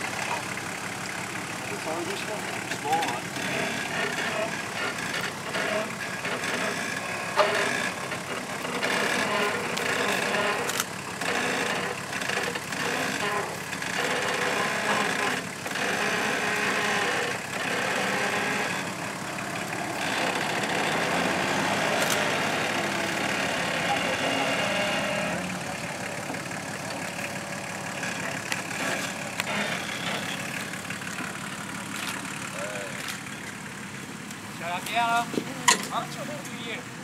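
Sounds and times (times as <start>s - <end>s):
vehicle engine running at low revs: 0.0s - 37.0s.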